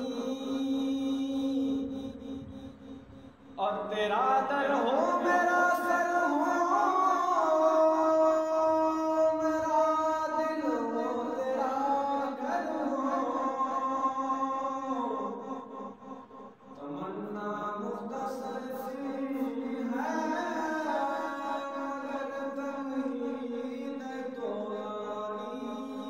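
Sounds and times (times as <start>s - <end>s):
person chanting recitation: 0.0s - 26.0s.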